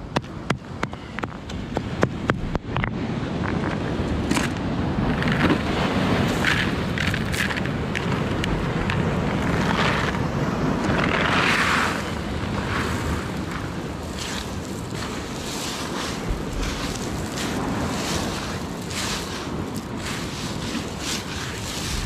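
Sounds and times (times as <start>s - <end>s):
surf on rocky shore: 0.0s - 22.0s
wind buffeting microphone: 0.0s - 22.0s.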